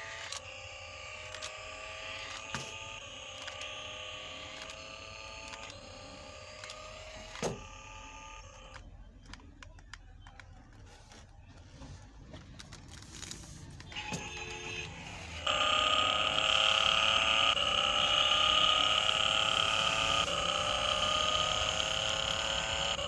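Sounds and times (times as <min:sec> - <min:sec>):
toy car motor whining: 0:00.0 - 0:08.9, 0:13.3 - 0:23.0.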